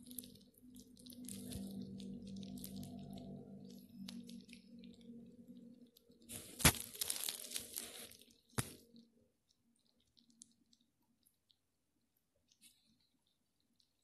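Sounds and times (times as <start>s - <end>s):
rustling and crinkling at microphone: 0.0s - 11.6s.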